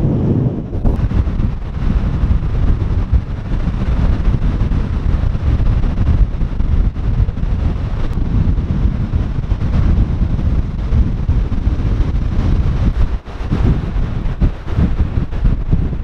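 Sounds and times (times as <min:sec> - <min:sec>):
rough surf: 0:00.0 - 0:16.0
wind buffeting microphone: 0:00.0 - 0:16.0.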